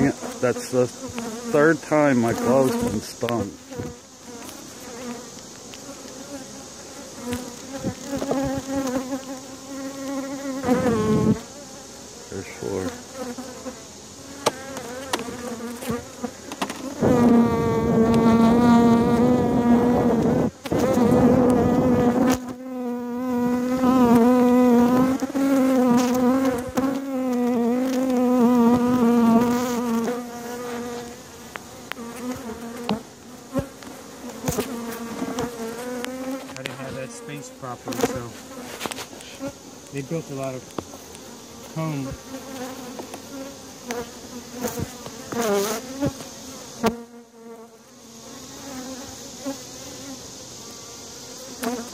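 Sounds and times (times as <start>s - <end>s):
honeybees buzzing: 0.0s - 51.9s.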